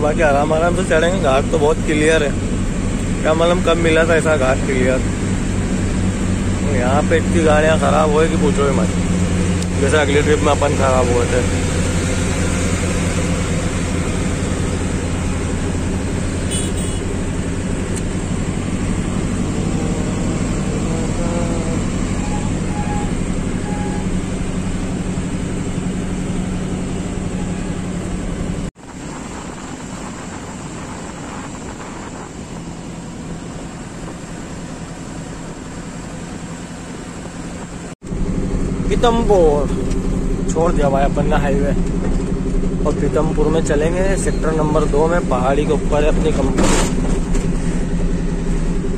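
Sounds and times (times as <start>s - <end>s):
diesel truck engine running: 0.0s - 48.9s
road and wind noise: 0.0s - 48.9s.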